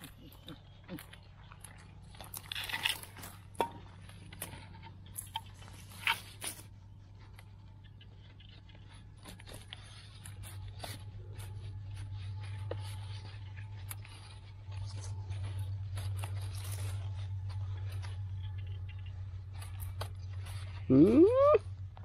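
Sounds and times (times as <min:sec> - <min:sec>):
dry grass and twigs crackling: 0:00.0 - 0:22.0
steady low rumble: 0:00.0 - 0:22.0
hand scraping dry soil: 0:02.0 - 0:22.0.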